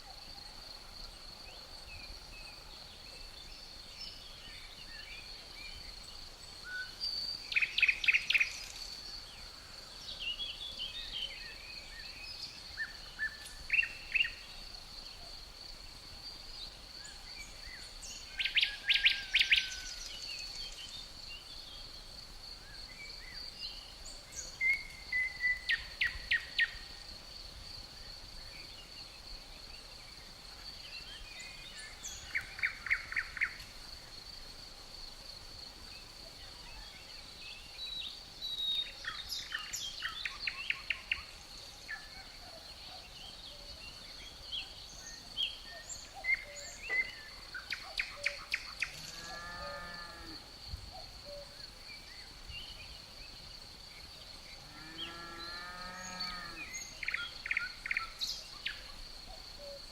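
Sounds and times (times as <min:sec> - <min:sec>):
crickets trilling: 0:00.0 - 0:59.9
songbirds singing: 0:00.6 - 0:27.1, 0:35.9 - 0:59.9.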